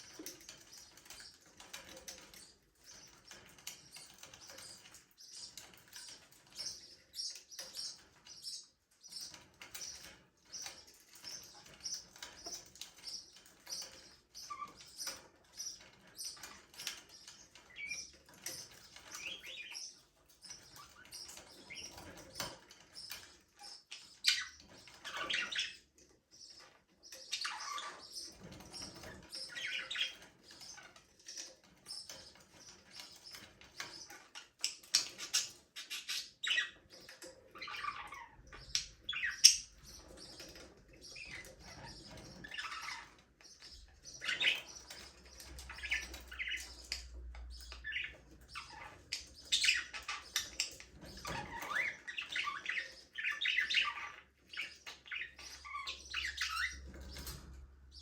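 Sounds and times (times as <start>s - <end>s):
budgerigars chirping and chattering: 0.0s - 58.0s.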